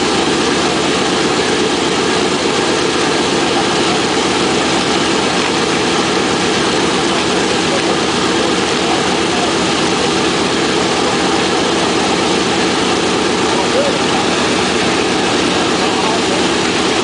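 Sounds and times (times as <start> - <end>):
radial engines idling: 0.0 - 17.0.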